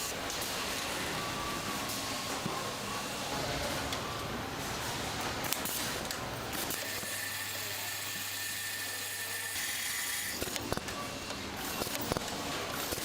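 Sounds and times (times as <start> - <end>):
factory machinery running: 0.0 - 13.0.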